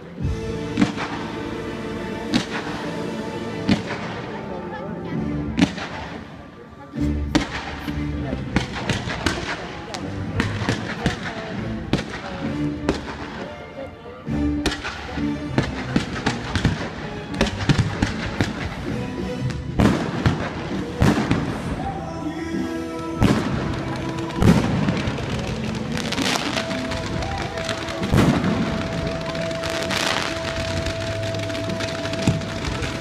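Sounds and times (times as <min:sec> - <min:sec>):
fireworks bangs and crackles: 0:00.0 - 0:04.5, 0:05.5 - 0:06.4, 0:07.3 - 0:13.6, 0:14.6 - 0:33.0
music playing: 0:00.0 - 0:33.0.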